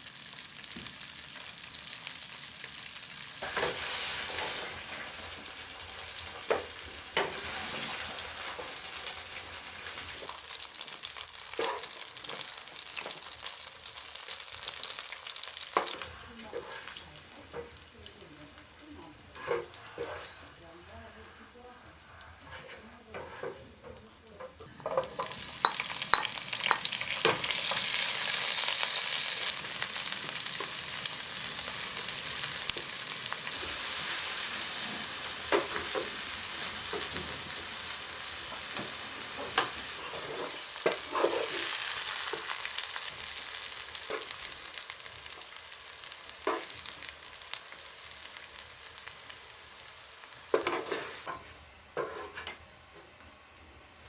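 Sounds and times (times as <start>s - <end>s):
food sizzling in a hot pan: 0.0s - 52.4s.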